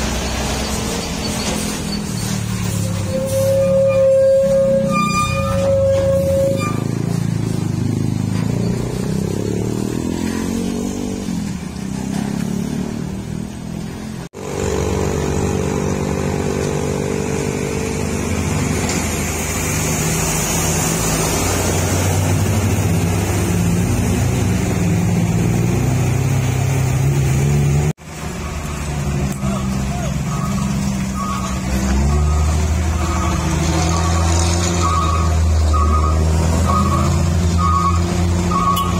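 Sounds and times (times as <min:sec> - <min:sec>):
road vehicle engines running: 0:00.0 - 0:38.9.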